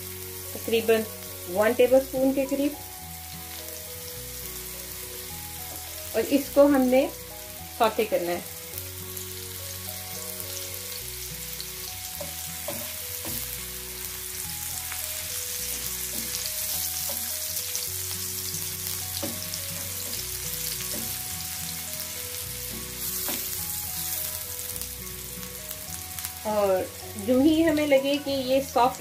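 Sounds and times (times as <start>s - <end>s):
onion sizzling in a frying pan: 0.0s - 29.0s.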